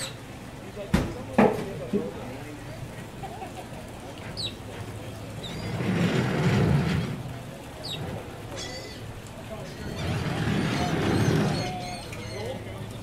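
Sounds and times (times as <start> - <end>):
low outdoor murmur: 0.0 - 13.0.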